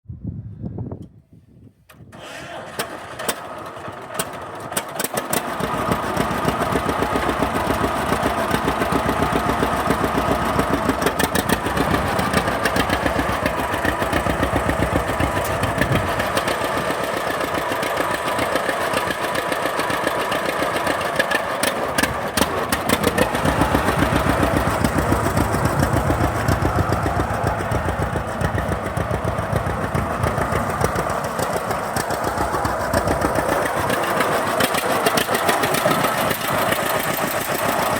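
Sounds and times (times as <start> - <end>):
two-cylinder tractor engine running: 2.1 - 37.9.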